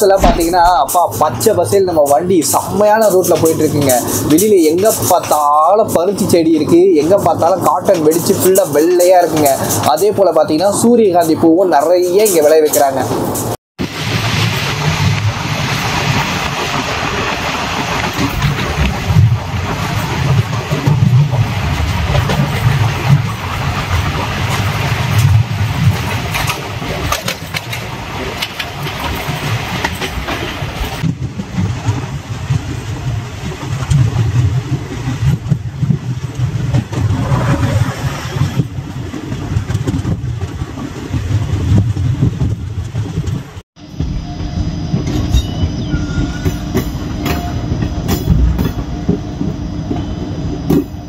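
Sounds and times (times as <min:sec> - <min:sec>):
train rumble from on board: 0:00.0 - 0:51.0.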